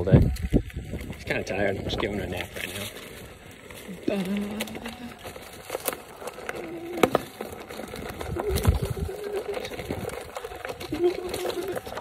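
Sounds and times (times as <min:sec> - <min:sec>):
clicks and rattles from bumps: 0:00.0 - 0:12.0.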